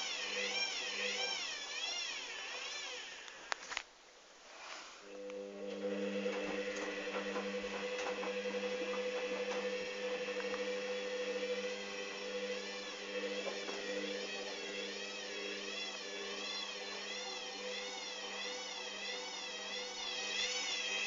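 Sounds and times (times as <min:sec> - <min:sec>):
washing machine spinning: 0:00.0 - 0:03.2, 0:05.1 - 0:21.0.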